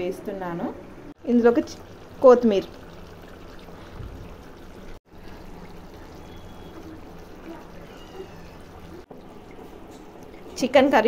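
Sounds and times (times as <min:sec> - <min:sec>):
curry bubbling in a pot: 0:01.2 - 0:11.0.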